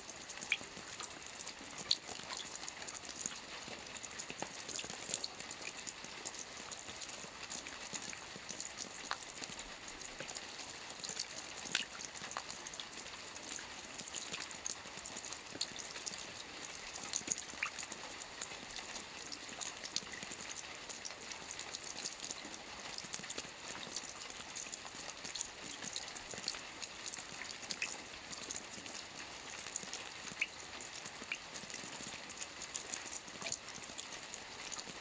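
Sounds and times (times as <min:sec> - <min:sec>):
raindrops ticking: 0:00.1 - 0:35.0.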